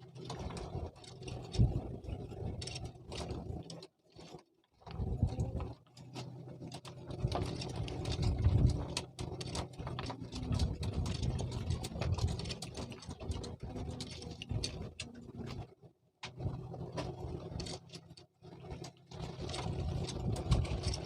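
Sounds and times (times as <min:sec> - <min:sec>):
engine running: 0:00.0 - 0:21.0
sharp clicks and knocks: 0:00.1 - 0:21.0.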